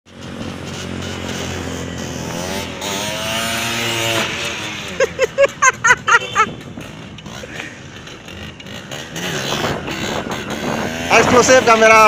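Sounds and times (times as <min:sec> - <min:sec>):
two-stroke motorbike engine passing: 0:00.1 - 0:12.0.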